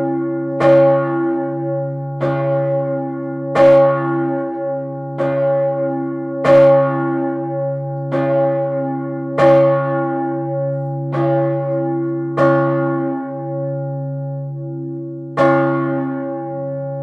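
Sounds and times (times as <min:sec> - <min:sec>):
church bell ringing: 0:00.0 - 0:17.0.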